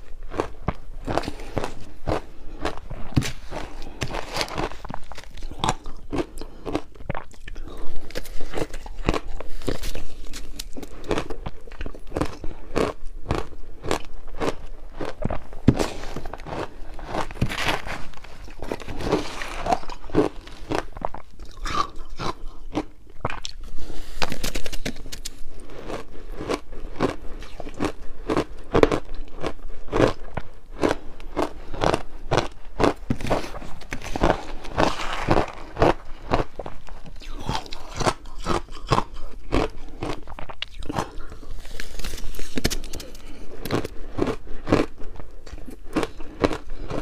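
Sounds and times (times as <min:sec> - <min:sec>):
person chewing ice: 0:00.0 - 0:47.0.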